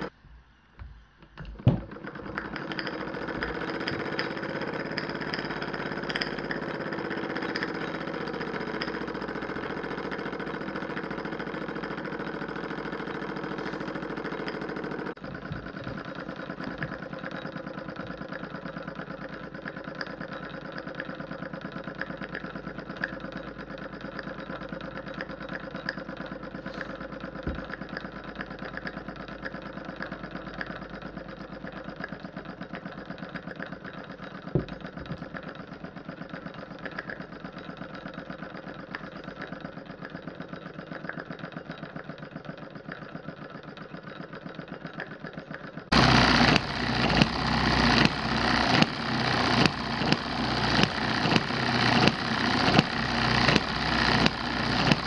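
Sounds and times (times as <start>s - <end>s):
sharp mechanical clicks: 1.5s - 55.0s
model steam engine running: 1.6s - 55.0s.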